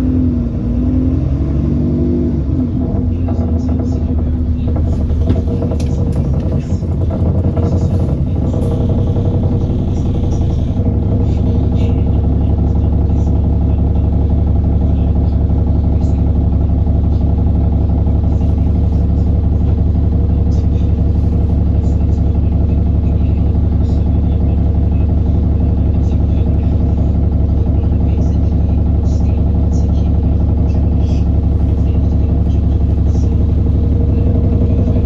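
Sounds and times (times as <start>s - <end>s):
bus diesel engine running: 0.0s - 35.0s
engine knocks and rattles: 0.0s - 35.0s.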